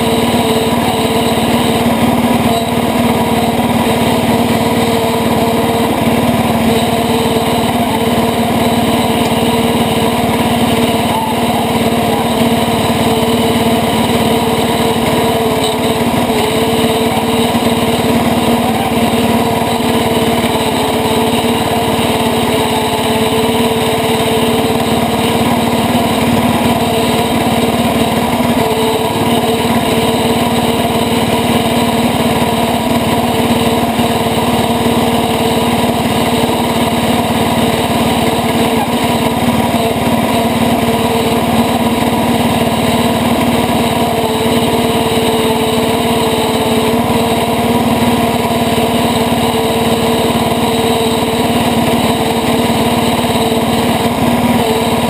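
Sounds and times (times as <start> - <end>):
garden tractor engine running: 0.0 - 55.0.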